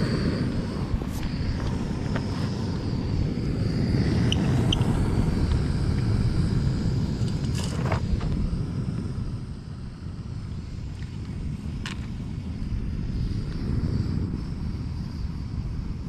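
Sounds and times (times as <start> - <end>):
gas stove burner roaring: 0.0 - 16.0.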